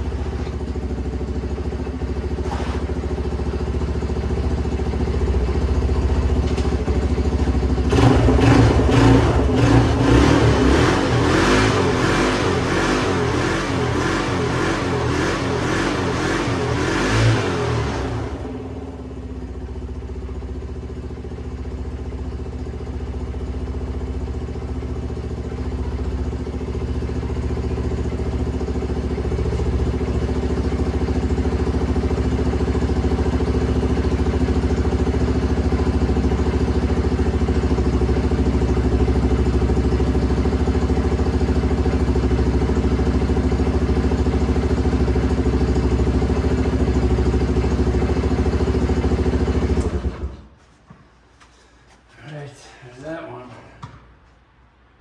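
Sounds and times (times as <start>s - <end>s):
small engine idling: 0.0s - 50.7s.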